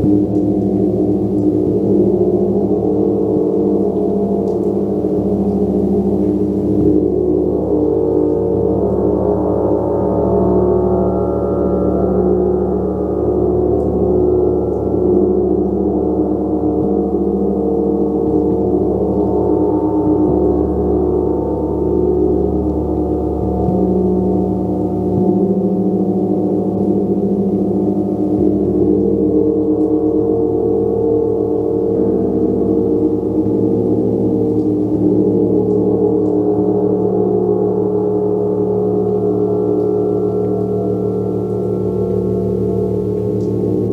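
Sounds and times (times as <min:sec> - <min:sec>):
gong played continuously: 0:00.0 - 0:43.9.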